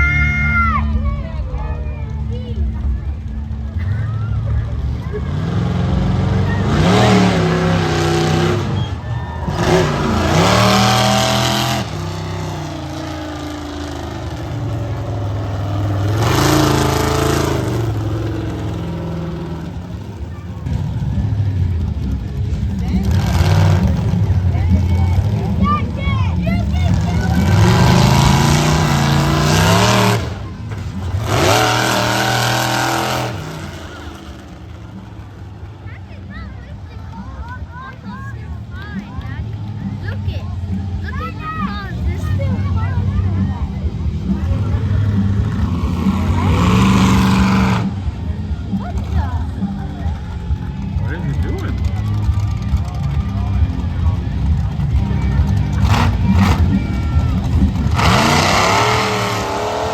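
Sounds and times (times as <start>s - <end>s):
monster truck engines revving: 0.0s - 59.9s.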